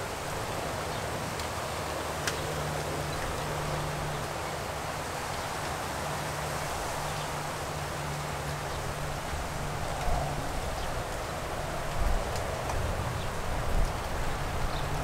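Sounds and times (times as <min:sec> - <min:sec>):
light rain hissing: 0:00.0 - 0:15.0
low wind rumble: 0:00.0 - 0:15.0
wind stirring palm fronds: 0:00.0 - 0:15.0.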